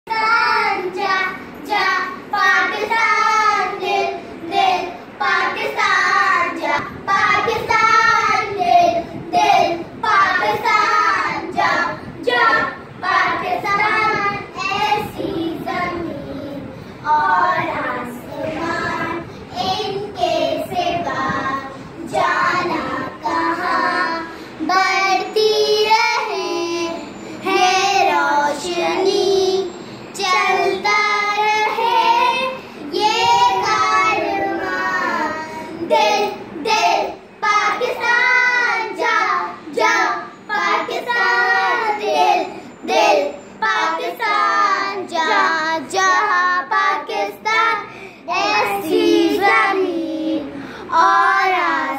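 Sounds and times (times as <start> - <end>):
girl singing: 0.1 - 51.9.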